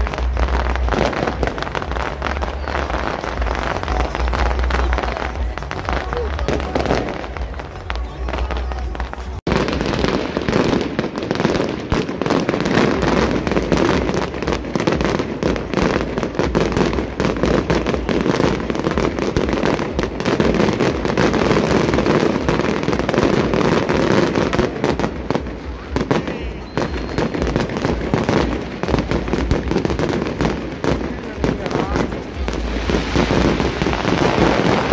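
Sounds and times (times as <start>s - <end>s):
fireworks cracking and banging: 0.0s - 34.9s.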